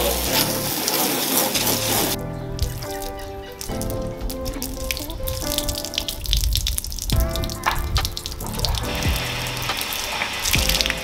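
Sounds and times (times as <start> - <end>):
background music: 0.0 - 11.0
water splashing onto paving: 0.0 - 11.0.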